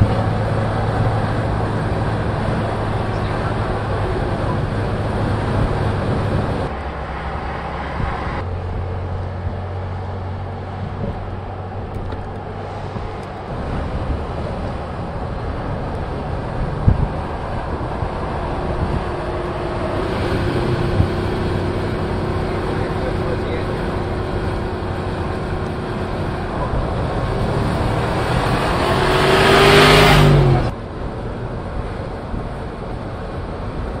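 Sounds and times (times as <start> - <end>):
car engine hum: 0.0 - 34.0
tyre and road noise: 0.0 - 34.0.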